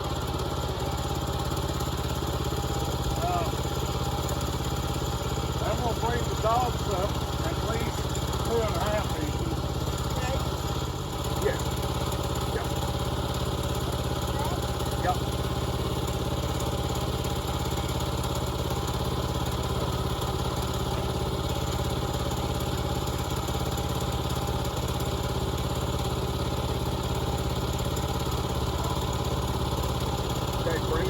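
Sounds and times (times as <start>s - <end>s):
small gas engine running: 0.0s - 31.0s.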